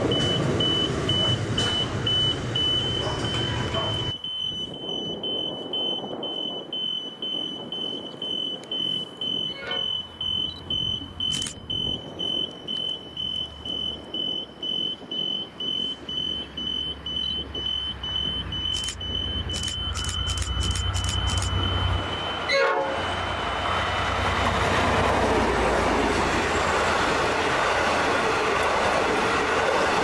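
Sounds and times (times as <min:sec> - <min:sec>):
railway crossing alarm beeps: 0:00.0 - 0:25.1
diesel locomotive rumble: 0:00.0 - 0:30.0.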